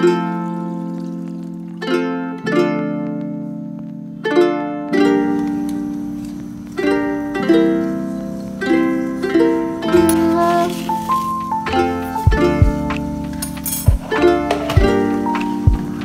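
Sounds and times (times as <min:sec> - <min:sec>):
plucked string chords: 0:00.0 - 0:16.0.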